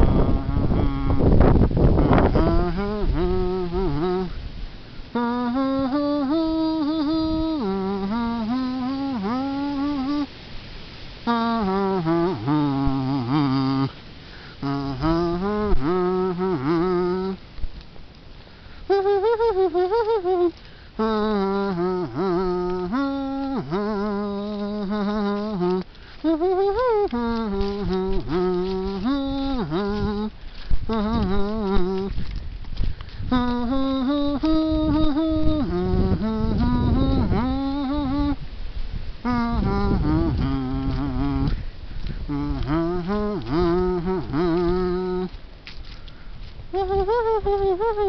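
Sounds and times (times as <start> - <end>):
person humming: 0.0 - 4.4, 5.1 - 10.3, 11.2 - 17.4, 18.8 - 32.4, 33.2 - 38.5, 39.2 - 45.4, 46.7 - 48.0.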